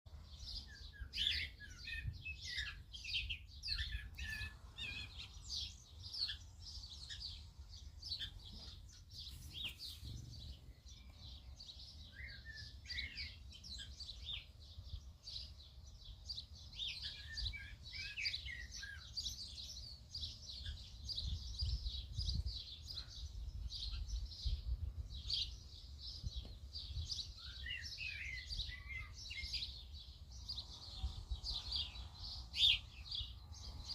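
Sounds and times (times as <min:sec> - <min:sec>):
flock of birds chirping: 0:00.1 - 0:33.9.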